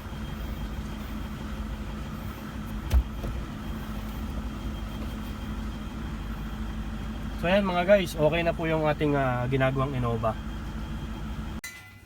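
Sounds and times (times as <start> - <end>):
car engine idling: 0.0 - 11.6.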